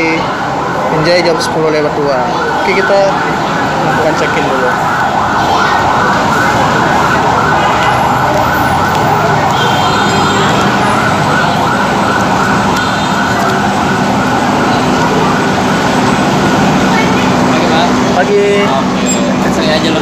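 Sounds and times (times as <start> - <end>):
warbling electronic siren tone: 0.0 - 20.0.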